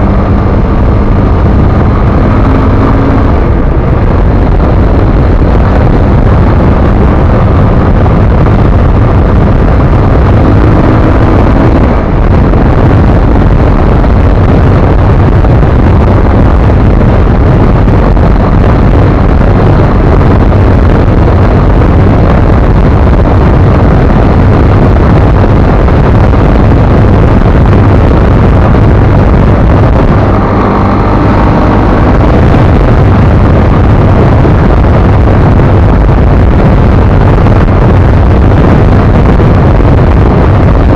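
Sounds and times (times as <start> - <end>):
motorcycle engine: 0.0 - 40.9
wind buffeting microphone: 0.0 - 40.9.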